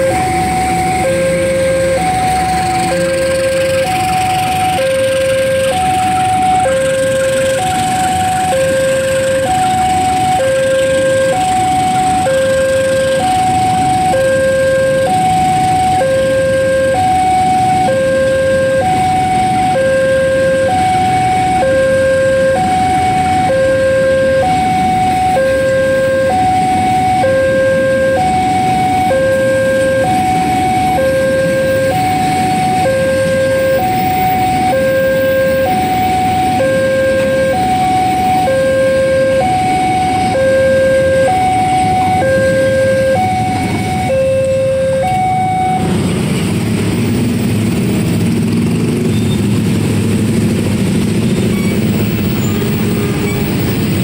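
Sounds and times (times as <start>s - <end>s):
two-tone level-crossing alarm: 0.0s - 46.0s.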